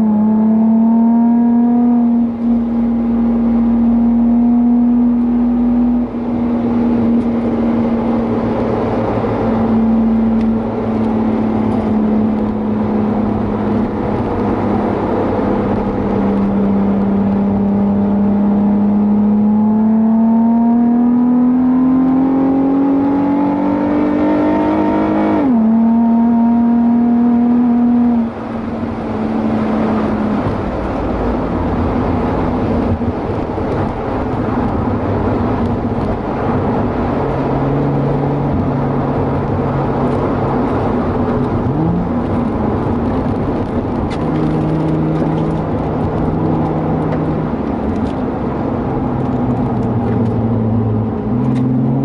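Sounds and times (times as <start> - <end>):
car engine at full throttle: 0.0 - 52.0
road and tyre noise: 0.0 - 52.0.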